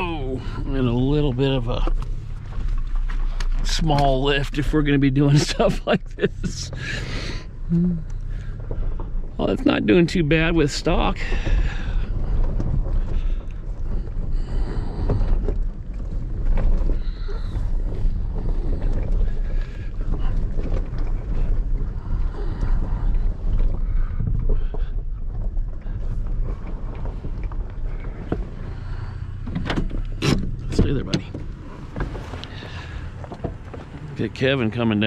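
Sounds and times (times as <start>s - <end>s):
knocks and rattles over bumps: 0.0s - 35.0s
truck engine rumble: 0.0s - 35.0s.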